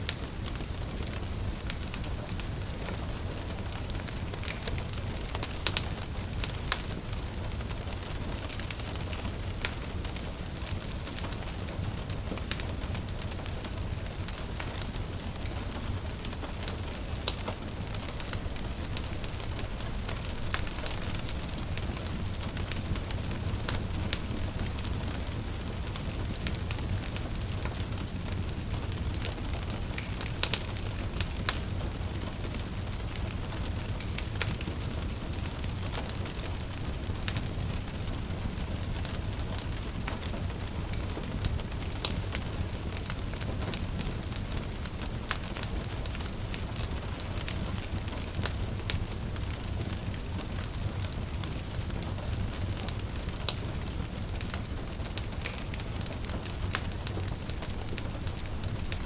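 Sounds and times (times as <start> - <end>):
gentle rain hiss: 0.0 - 59.0
wood fire crackling and popping: 0.0 - 59.0.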